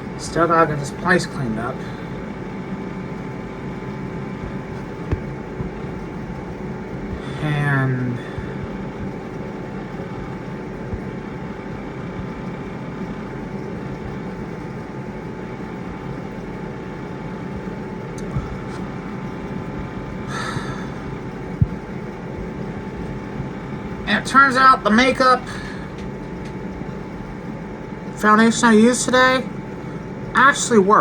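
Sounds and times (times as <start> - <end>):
faint steady tones: 0.0 - 31.0
machine hum with low drone: 0.0 - 31.0.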